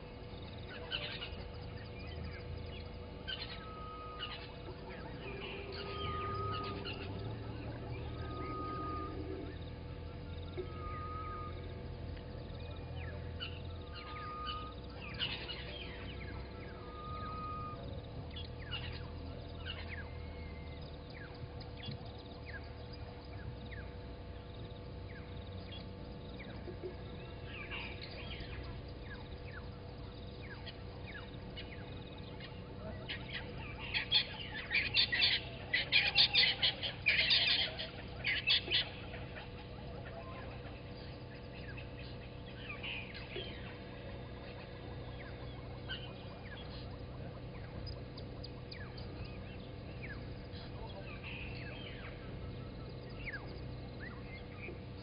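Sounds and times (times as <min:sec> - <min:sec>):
birds chirping: 0:00.0 - 0:55.0
harsh rapid bird calls: 0:00.1 - 0:55.0.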